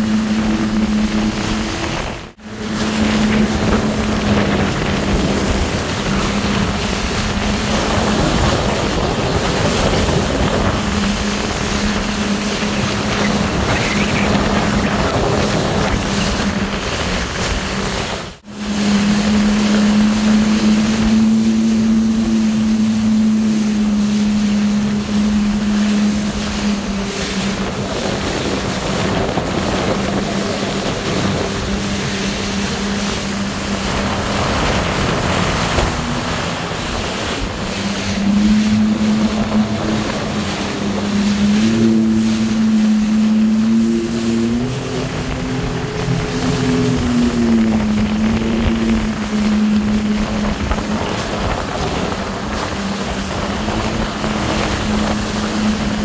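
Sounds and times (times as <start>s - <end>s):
jet ski engine drone: 0.0s - 56.0s
water rushing: 0.0s - 56.0s
wind buffeting microphone: 0.0s - 56.0s.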